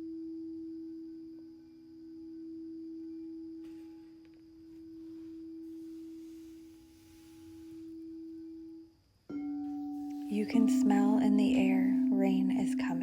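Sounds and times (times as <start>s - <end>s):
faint higher tone: 0.0s - 13.0s
pure humming tone: 0.0s - 13.0s.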